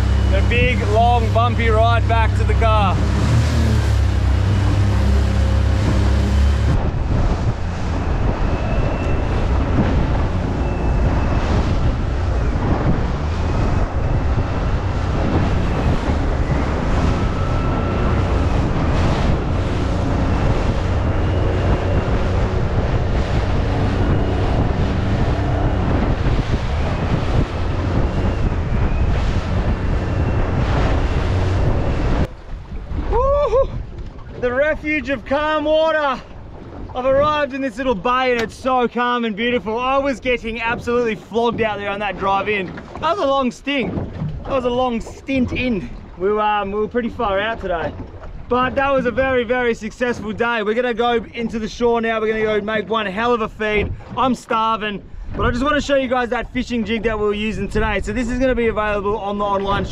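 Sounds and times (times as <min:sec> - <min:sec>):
outboard motor running: 0:00.0 - 0:59.9
water rushing: 0:00.0 - 0:59.9
wind buffeting microphone: 0:00.0 - 0:59.9.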